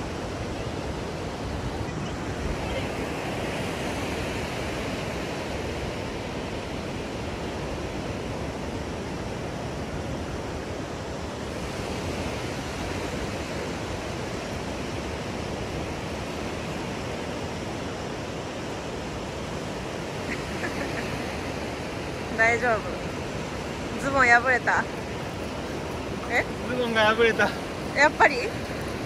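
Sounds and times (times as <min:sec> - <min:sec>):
surf breaking on beach: 0:00.0 - 0:29.0
wind: 0:00.0 - 0:29.0.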